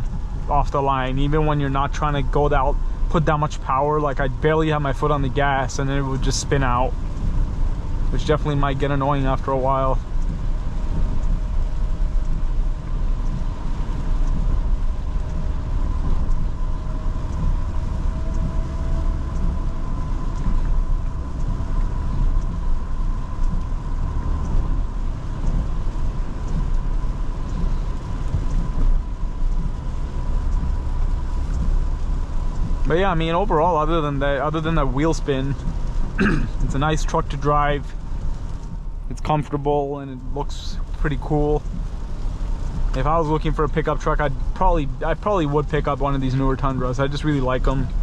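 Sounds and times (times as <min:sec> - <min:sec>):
road and tyre rumble: 0:00.0 - 0:48.0.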